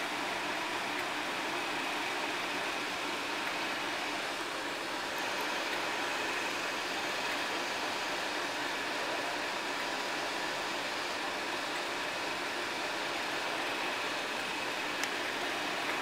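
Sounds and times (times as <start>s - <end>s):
train running slowly: 0.0s - 16.0s.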